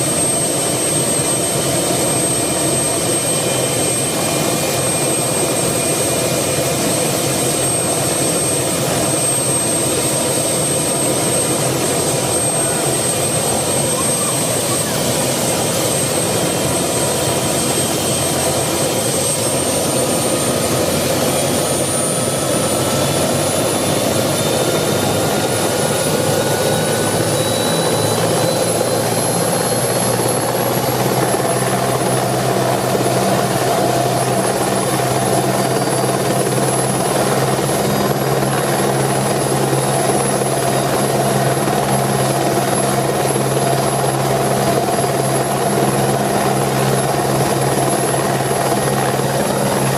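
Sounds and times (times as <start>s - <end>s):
helicopter turbine whine: 0.0s - 49.9s
low rotor hum: 0.0s - 49.9s.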